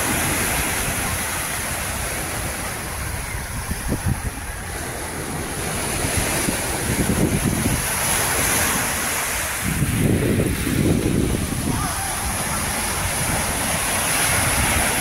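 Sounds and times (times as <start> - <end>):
waves breaking on sandy shore: 0.0 - 15.0
wind rumbling on microphone: 0.0 - 15.0.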